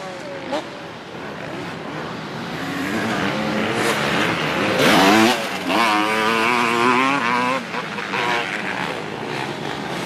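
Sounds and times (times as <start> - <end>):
dirt bike engine revving: 1.5 - 10.0.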